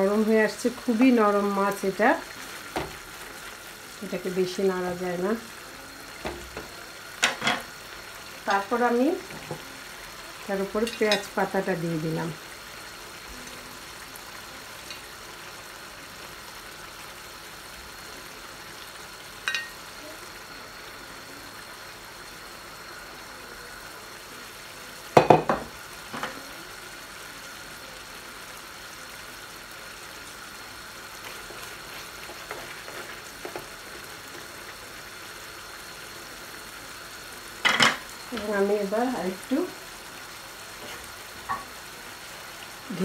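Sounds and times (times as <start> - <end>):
fish curry sizzling in a pan: 0.0 - 43.0.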